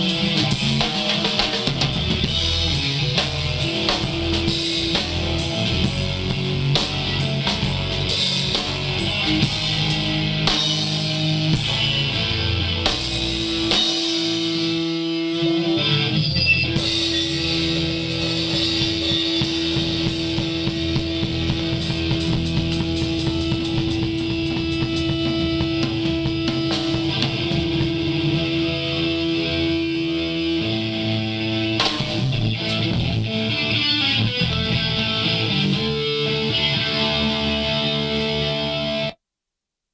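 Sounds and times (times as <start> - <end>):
bass guitar: 0.0 - 39.2
drums: 0.0 - 39.2
electric guitar: 0.0 - 39.2.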